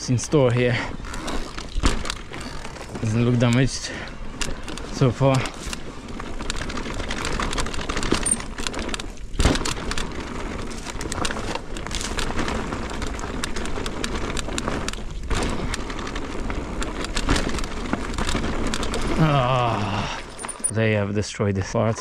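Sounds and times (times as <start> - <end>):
bike tyres rolling over dirt: 0.0 - 22.0
bike clicks and knocks: 0.7 - 20.9.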